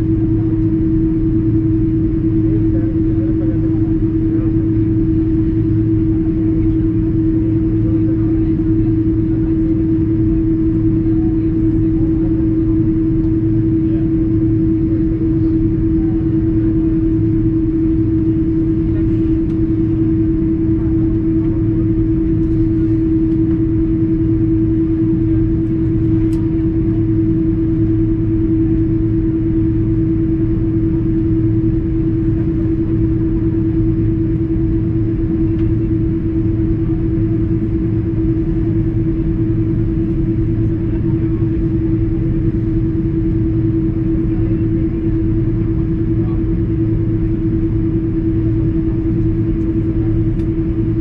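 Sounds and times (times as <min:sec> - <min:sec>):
airplane cabin engine drone: 0:00.0 - 0:51.0.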